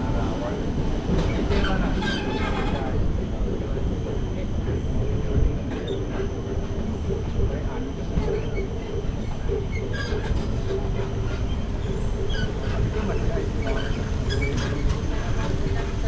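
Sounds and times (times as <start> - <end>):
tram rumbling and droning: 0.0 - 16.0.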